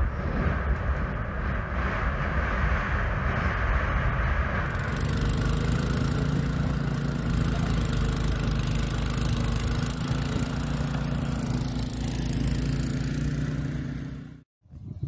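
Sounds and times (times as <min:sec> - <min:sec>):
snow blower engine drone: 0:00.0 - 0:14.4
snow rushing from blower: 0:01.8 - 0:14.4.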